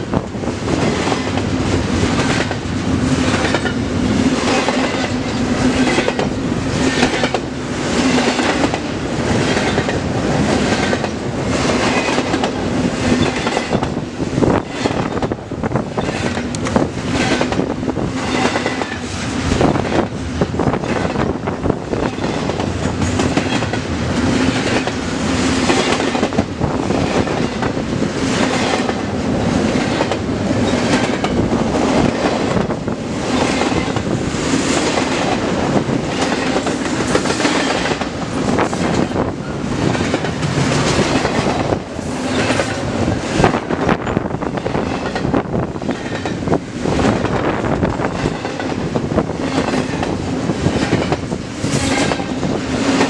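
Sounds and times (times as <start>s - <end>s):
train cars rumbling and rattling: 0.0s - 53.0s
wheels clacking over rail joints: 0.2s - 53.0s.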